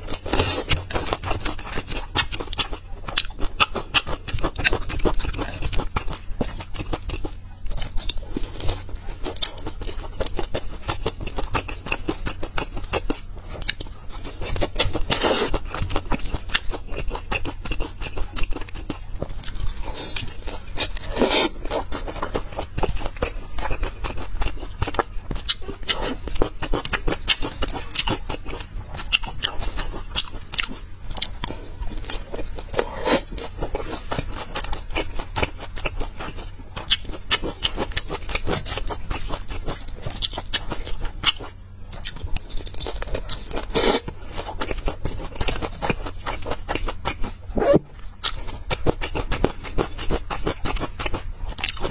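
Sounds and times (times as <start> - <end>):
steady low hum: 0.0 - 51.9
wet chewing and smacking: 0.0 - 51.9.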